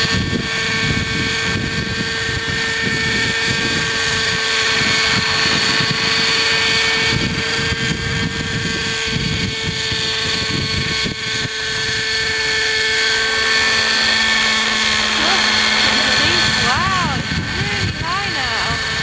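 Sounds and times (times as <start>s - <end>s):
model helicopter engine whine: 0.0s - 19.0s
wind buffeting microphone: 0.0s - 19.0s.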